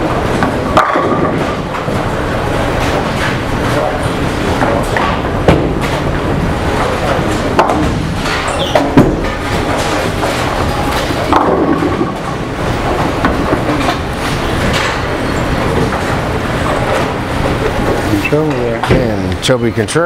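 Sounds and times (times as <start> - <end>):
bowling balls rolling: 0.0 - 19.4
bowling pins clattering: 0.0 - 19.5.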